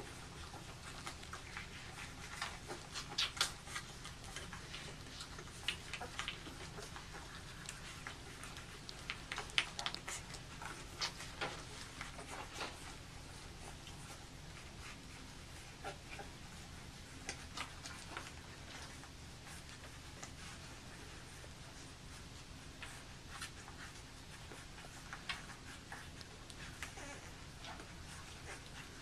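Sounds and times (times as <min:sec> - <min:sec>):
puppies suckling clicks and smacks: 0:00.0 - 0:29.0.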